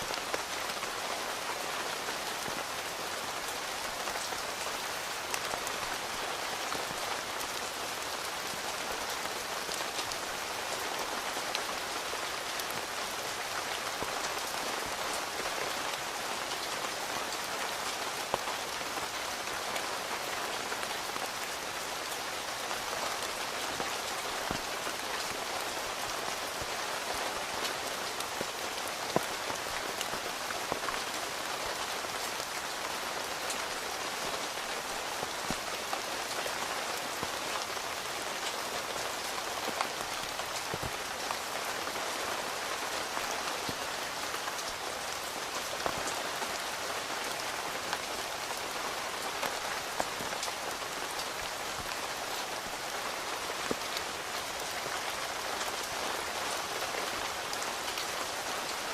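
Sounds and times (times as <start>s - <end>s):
rain pattering on tent fabric: 0.0s - 58.9s.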